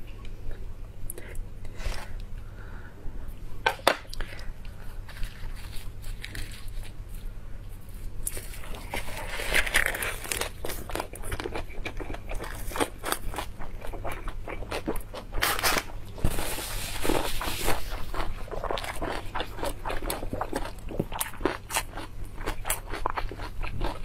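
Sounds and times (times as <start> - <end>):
crunchy lettuce chewing: 4.7 - 24.0.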